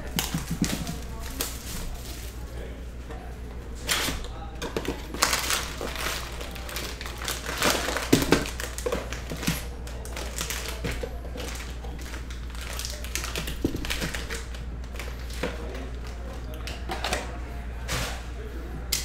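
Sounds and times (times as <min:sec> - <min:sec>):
foil wrappers crinkling: 0:00.0 - 0:02.8, 0:03.8 - 0:17.3
steady low hum: 0:00.0 - 0:19.0.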